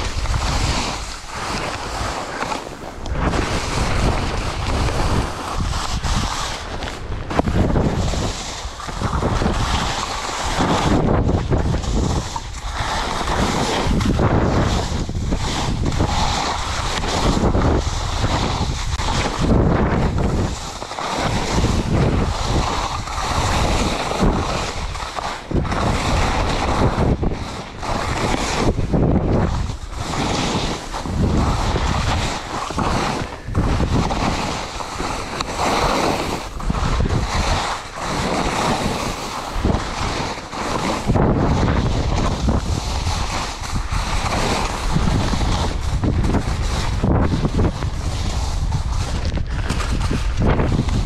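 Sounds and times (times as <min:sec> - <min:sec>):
skis scraping through snow: 0:00.0 - 0:51.0
wind buffeting microphone: 0:00.0 - 0:51.0.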